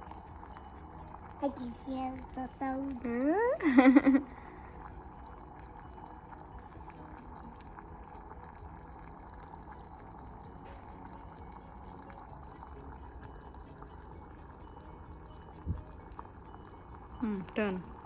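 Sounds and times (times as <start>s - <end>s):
steam inhaler water boiling: 0.0s - 18.0s.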